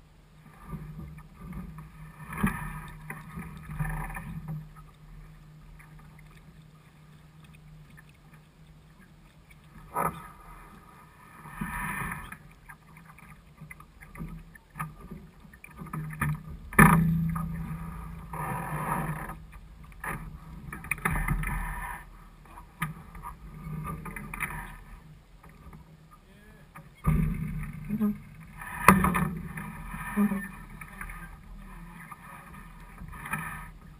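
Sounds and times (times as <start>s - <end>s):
steady low hum: 0.0s - 33.9s
water lapping against hull: 0.3s - 33.9s.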